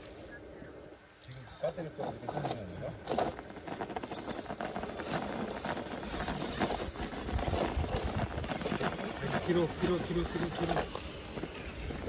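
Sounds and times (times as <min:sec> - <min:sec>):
gravel crunching on trail: 0:01.4 - 0:12.0.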